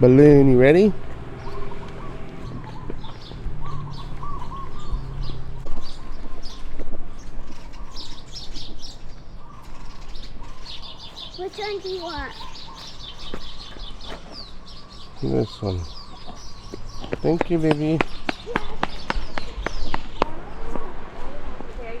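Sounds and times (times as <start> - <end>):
birds chirping and warbling: 0.0 - 22.0.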